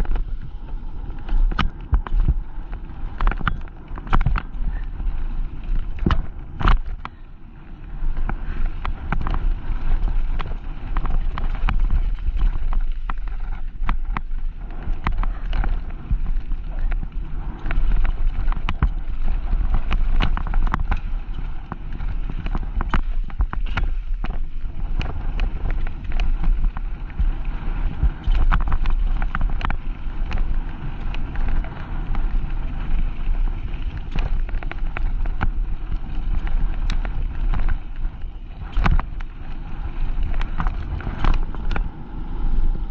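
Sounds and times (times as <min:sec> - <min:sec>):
bike rattling and knocking: 0:00.0 - 0:42.9
tyres crunching over gravel: 0:00.0 - 0:42.9
wind rumble on microphone: 0:00.0 - 0:42.9.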